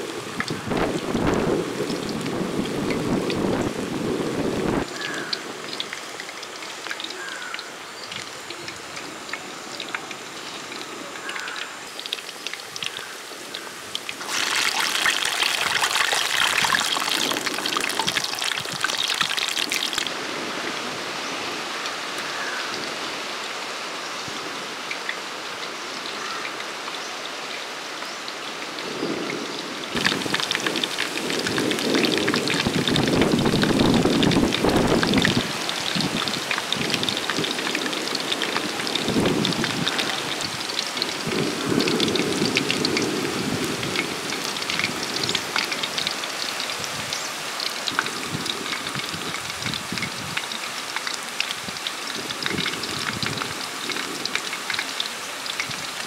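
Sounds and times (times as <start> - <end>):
food deep-frying in hot oil: 0.0 - 20.2, 24.9 - 56.0.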